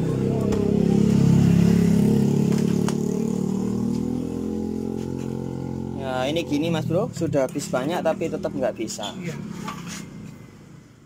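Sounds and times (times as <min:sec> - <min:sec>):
vehicle engine passing: 0:00.0 - 0:10.9.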